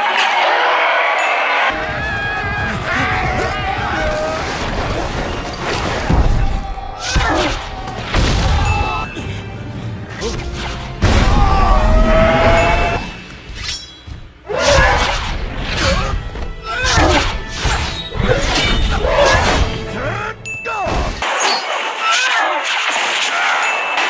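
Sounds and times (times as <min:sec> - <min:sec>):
action soundtrack music: 0:01.2 - 0:24.0.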